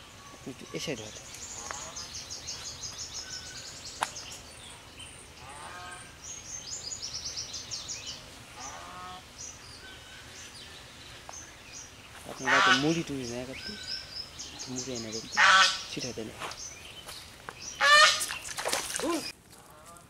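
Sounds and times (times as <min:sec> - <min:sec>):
small birds trilling: 0:00.0 - 0:19.9.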